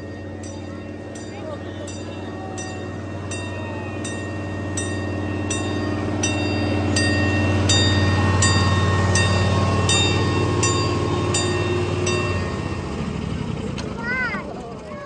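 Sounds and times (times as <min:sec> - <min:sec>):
miniature train locomotive hum: 0:00.0 - 0:15.0
wheels clicking over rail joints: 0:00.0 - 0:15.0.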